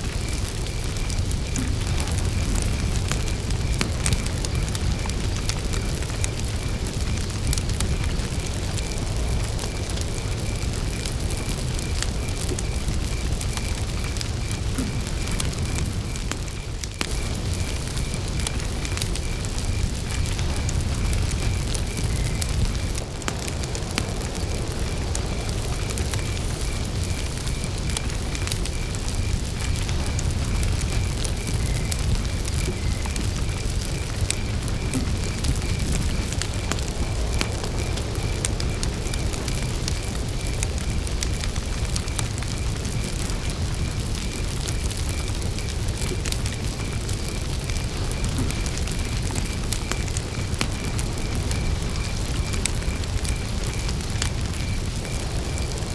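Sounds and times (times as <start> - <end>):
campfire crackling and popping: 0.0 - 55.9
cricket chirping: 0.0 - 55.9.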